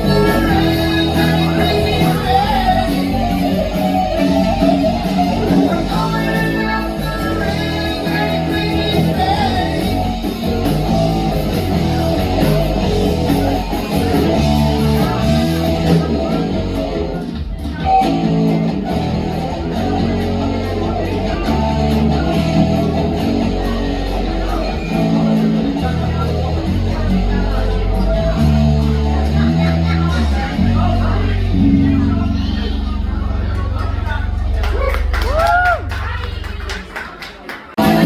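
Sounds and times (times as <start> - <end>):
person singing: 0.0 - 35.9, 37.8 - 38.0
electric guitar: 0.0 - 37.0, 37.8 - 38.0
live rock band playing: 0.0 - 37.0, 37.8 - 38.0.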